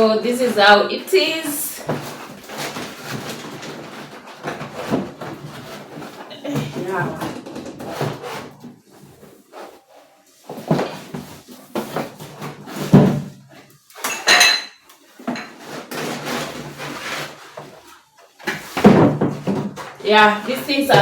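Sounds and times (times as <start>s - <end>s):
knocking and clattering of packaging: 1.8s - 9.8s, 10.4s - 21.0s.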